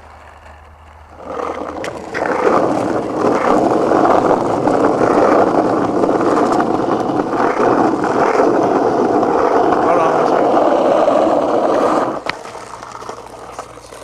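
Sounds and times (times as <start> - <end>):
skateboard wheels rolling on pavement: 0.0 - 14.0.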